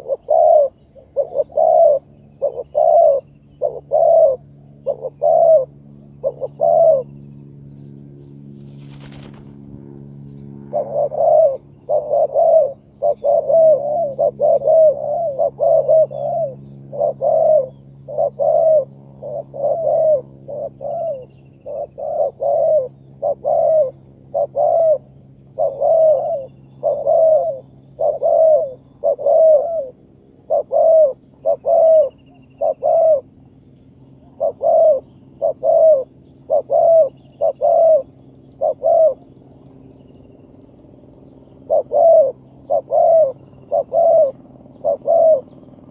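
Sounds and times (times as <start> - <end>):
dove cooing: 0.0 - 7.2, 10.6 - 33.4, 34.2 - 39.8, 41.5 - 45.9.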